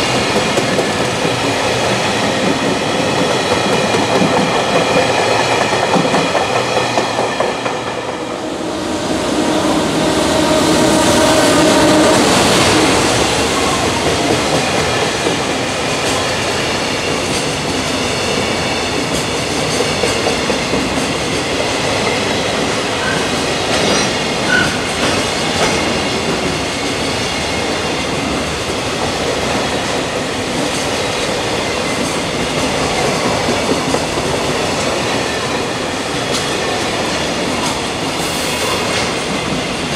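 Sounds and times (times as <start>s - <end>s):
freight train wheels clacking: 0.0s - 39.9s
train rolling noise: 0.0s - 39.9s.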